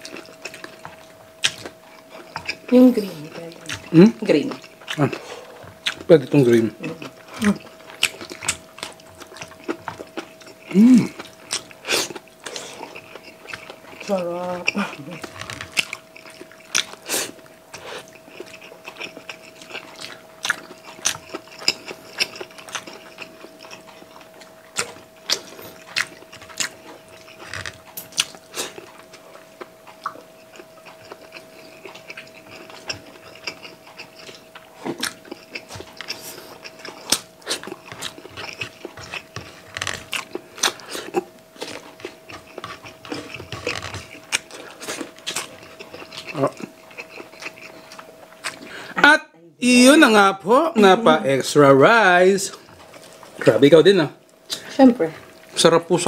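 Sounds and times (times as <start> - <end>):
chewing food: 0.0 - 49.0, 51.0 - 56.0
faint steady hum: 0.0 - 56.0.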